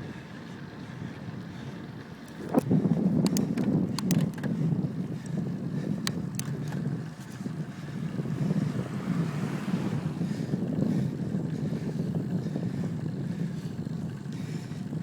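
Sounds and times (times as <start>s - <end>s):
road noise: 0.0s - 15.0s
wind rumble on microphone: 0.0s - 15.0s.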